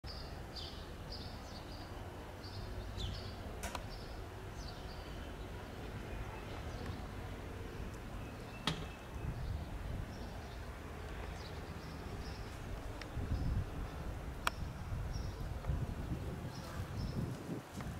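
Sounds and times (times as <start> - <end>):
birds chirping: 0.1 - 17.6.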